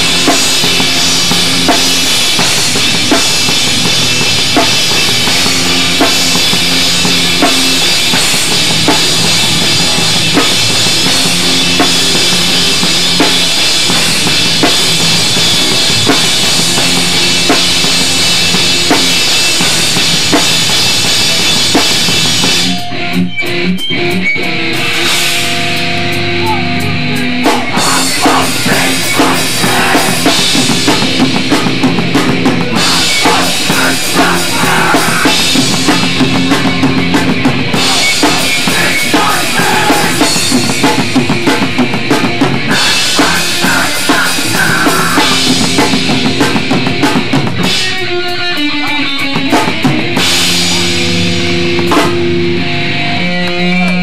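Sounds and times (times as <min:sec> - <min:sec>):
distorted guitars: 0:00.0 - 0:54.0
pounding drum kit: 0:00.0 - 0:54.0
punk band playing: 0:00.0 - 0:54.0.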